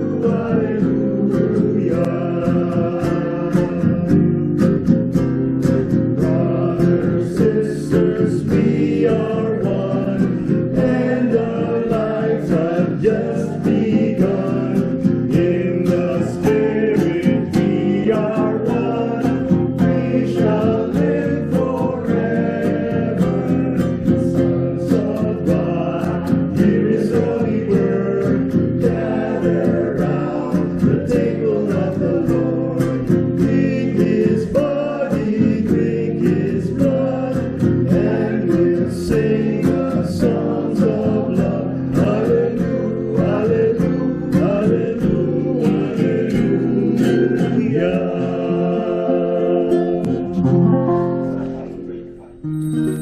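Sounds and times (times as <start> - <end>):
group singing a hymn: 0.0 - 51.4
strummed acoustic guitar: 0.0 - 53.0.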